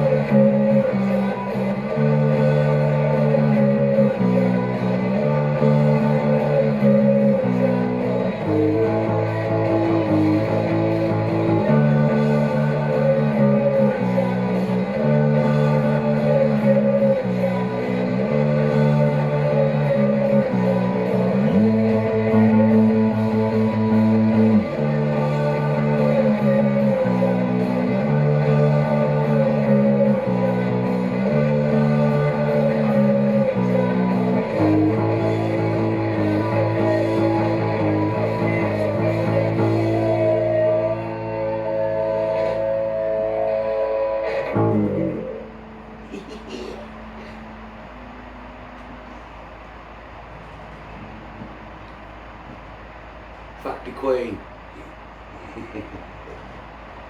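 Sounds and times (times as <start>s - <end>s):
electric guitar strumming chords: 0.0s - 53.6s
bass guitar: 0.0s - 57.0s.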